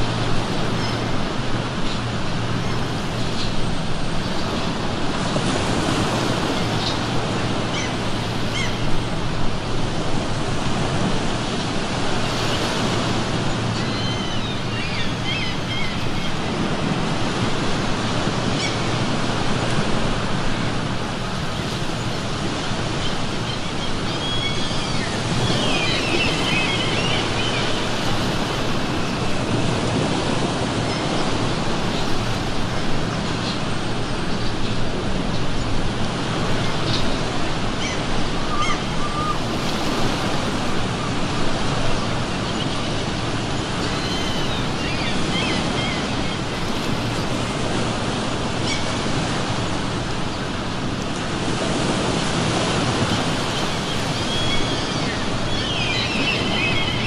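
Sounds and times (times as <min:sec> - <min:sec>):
gulls calling: 0:00.0 - 0:57.0
ocean surf washing ashore: 0:00.0 - 0:57.0.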